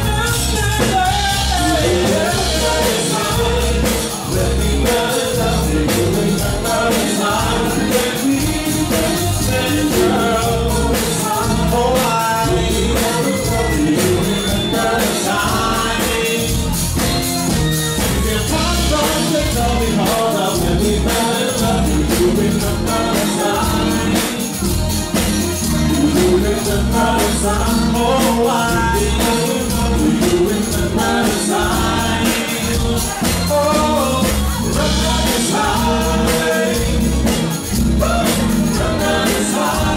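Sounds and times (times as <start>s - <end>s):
male and female vocals: 0.0s - 17.0s, 18.0s - 39.9s
live band dance song: 0.0s - 39.9s.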